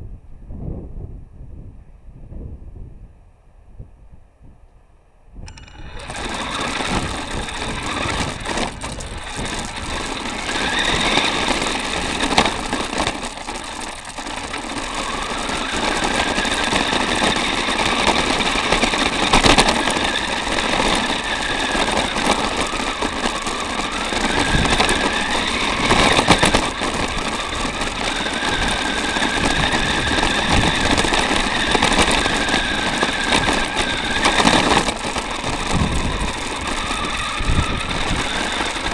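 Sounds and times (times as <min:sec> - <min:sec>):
electric motor and gear whine: 0:05.4 - 0:38.9
chassis and tyres rattling: 0:05.5 - 0:38.9.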